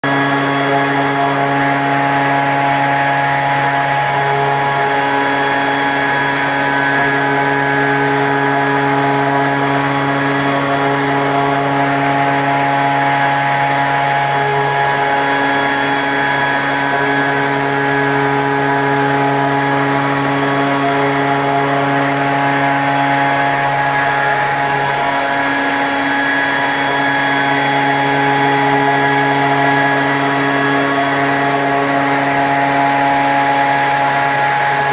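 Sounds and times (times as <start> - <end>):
machine spindle drilling stone: 0.0 - 34.9.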